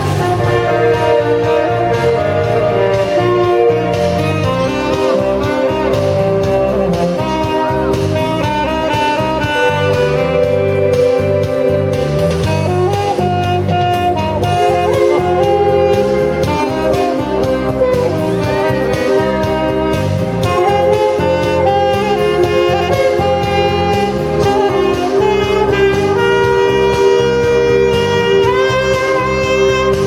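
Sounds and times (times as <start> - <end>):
bass line: 0.0 - 30.0
saxophone melody: 0.0 - 30.0
steady beat: 0.0 - 30.0.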